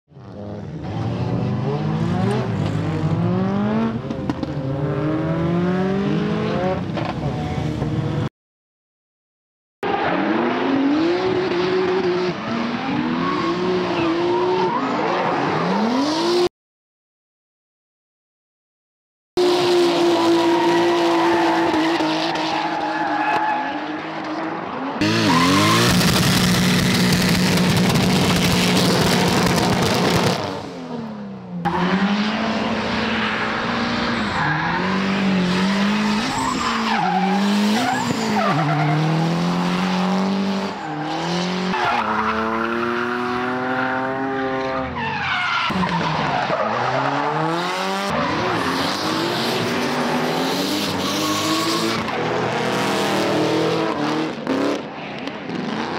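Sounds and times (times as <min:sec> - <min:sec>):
car engines revving hard: 0:00.2 - 0:08.3, 0:09.8 - 0:16.5, 0:19.4 - 0:55.9.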